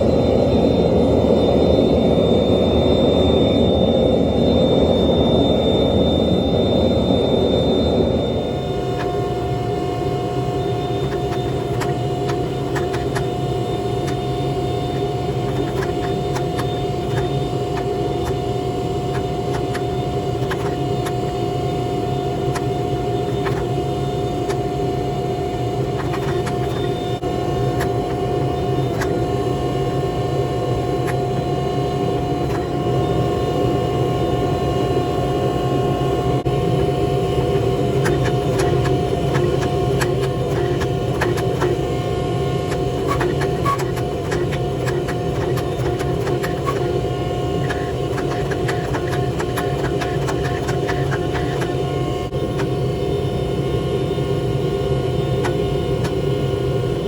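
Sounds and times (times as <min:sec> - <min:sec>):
machine roar with hum: 0:00.0 - 0:57.0.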